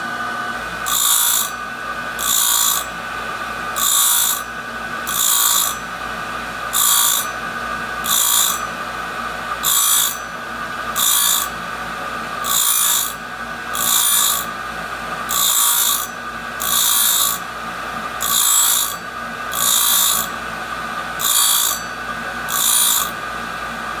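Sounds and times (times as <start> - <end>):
grinding wheel hiss: 0.0 - 3.0, 3.7 - 6.0, 6.6 - 11.6, 12.4 - 14.6, 15.2 - 20.4, 21.1 - 23.9
grinder motor humming: 0.0 - 24.0.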